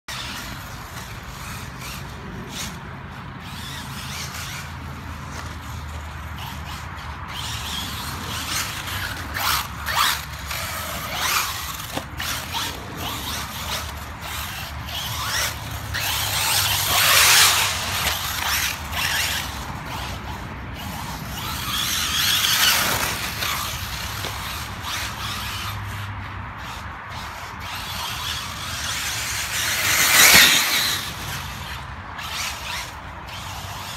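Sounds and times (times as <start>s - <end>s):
tyres scrabbling on dirt: 0.1s - 26.0s, 26.6s - 33.9s.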